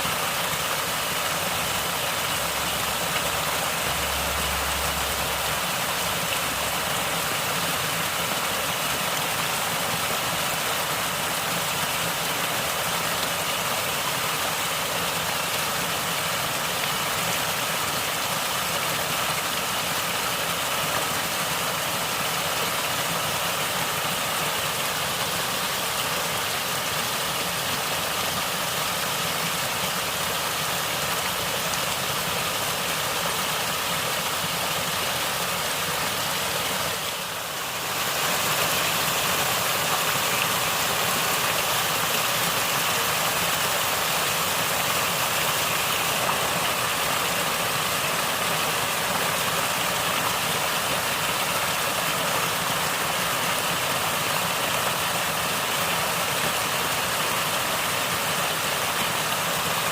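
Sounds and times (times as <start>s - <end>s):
water flowing and gurgling: 0.0s - 59.9s.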